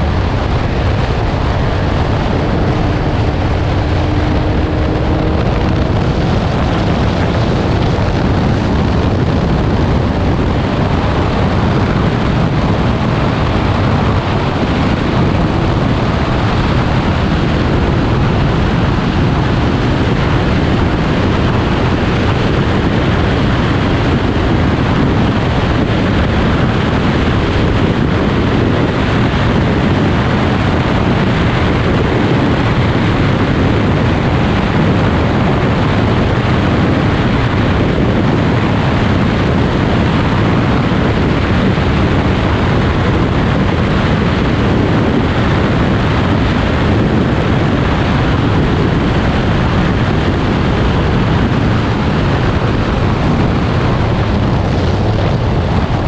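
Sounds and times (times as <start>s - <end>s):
car engine: 0.0s - 56.0s
wind rushing on microphone: 0.0s - 56.0s.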